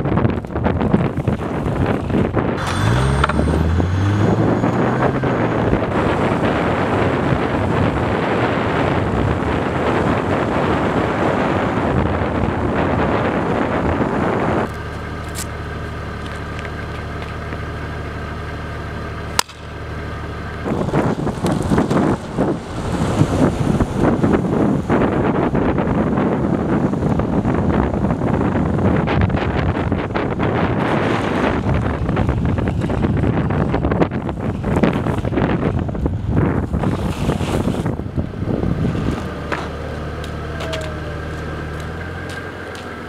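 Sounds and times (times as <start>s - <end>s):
wind buffeting microphone: 0.0s - 15.2s, 20.5s - 43.0s
car engine and road noise: 0.0s - 43.0s.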